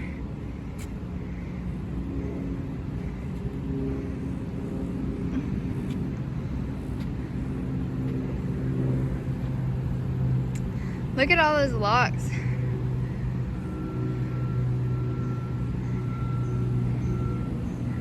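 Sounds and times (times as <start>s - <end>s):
engine humming: 0.0s - 18.0s
low outdoor rumble: 0.0s - 18.0s.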